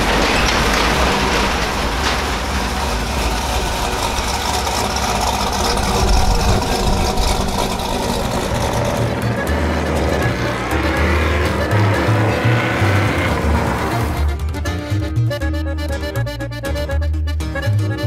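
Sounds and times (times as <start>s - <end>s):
pickup truck engine idling: 0.0s - 15.3s.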